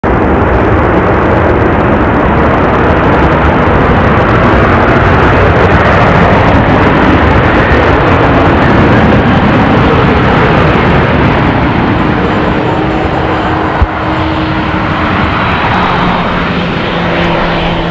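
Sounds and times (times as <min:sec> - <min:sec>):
loud jet engine noise: 0:00.0 - 0:17.9.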